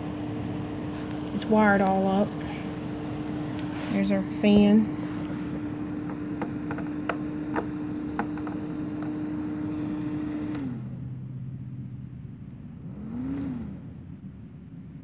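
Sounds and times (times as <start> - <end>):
electric fan motor humming: 0.0 - 15.0.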